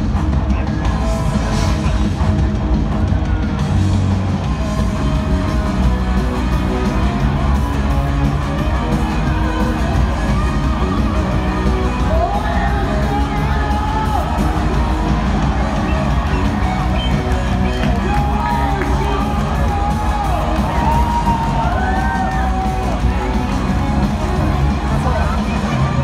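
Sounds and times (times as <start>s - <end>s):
crowd yelling: 0.0s - 26.0s
rock band over stadium speakers: 0.0s - 26.0s.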